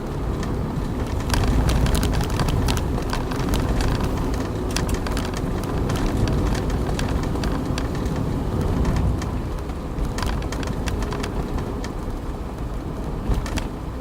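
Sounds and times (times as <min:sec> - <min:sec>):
engine and road rumble: 0:00.0 - 0:14.0
irregular sharp ticks: 0:00.3 - 0:12.0.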